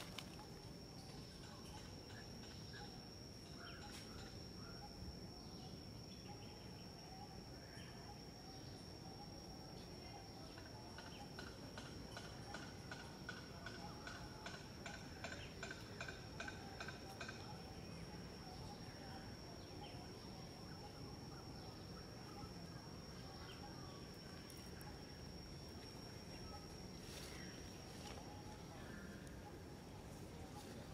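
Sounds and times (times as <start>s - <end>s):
high insect drone: 0.0s - 30.9s.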